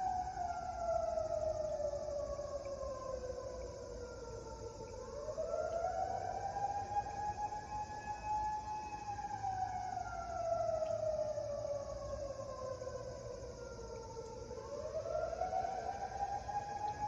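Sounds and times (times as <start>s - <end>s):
fire siren wailing: 0.0s - 17.0s.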